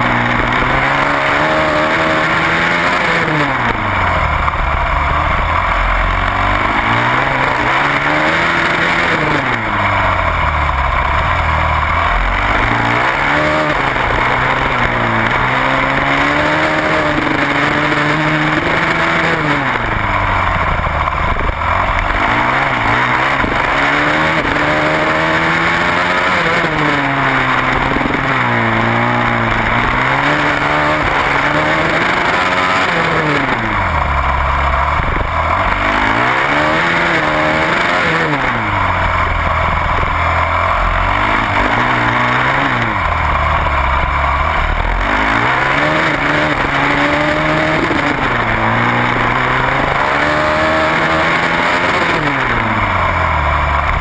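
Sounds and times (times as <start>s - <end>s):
motorcycle engine revving: 0.0s - 54.0s
wind and road rush: 0.0s - 54.0s.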